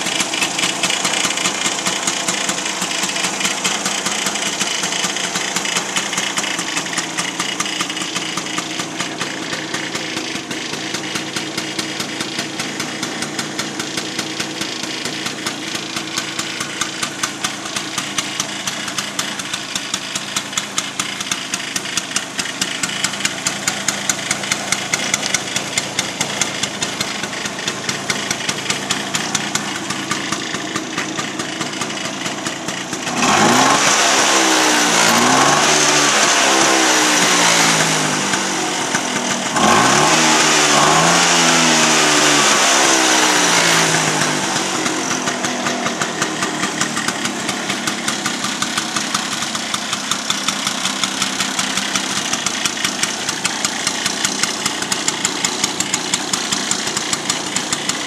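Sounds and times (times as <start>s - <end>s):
scooter engine idling and revving: 0.0s - 58.0s.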